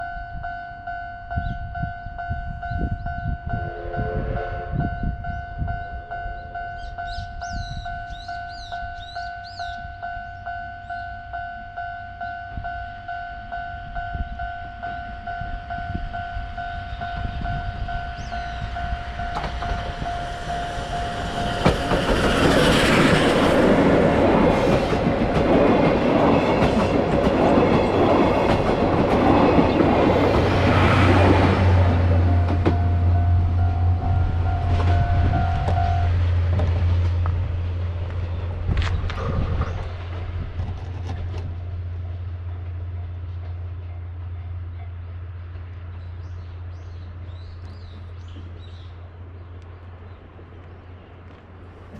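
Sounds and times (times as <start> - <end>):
train passing loudly: 1.4 - 51.9.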